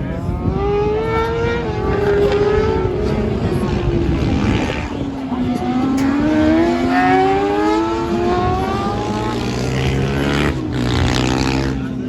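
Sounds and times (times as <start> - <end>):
racing motorcycle accelerating: 0.0 - 12.0.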